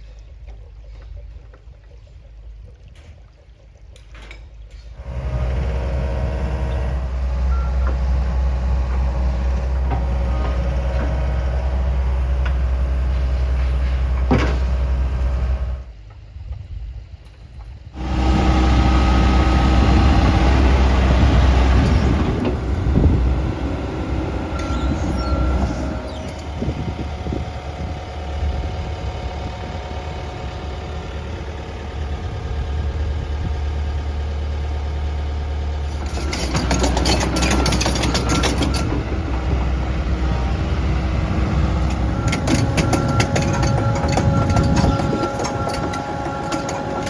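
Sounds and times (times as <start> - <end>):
heavy diesel engine running: 5.0 - 16.0, 17.9 - 47.0.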